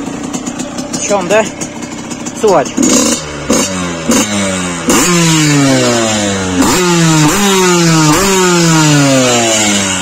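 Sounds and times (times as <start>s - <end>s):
two-stroke engine revving: 0.0s - 10.0s.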